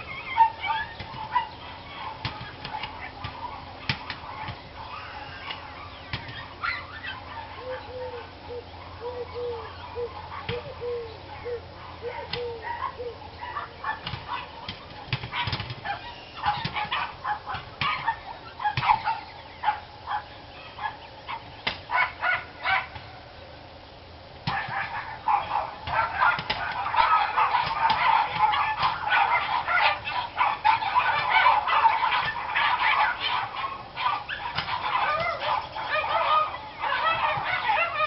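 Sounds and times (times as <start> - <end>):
dogs barking: 0.0 - 23.3, 24.4 - 38.0.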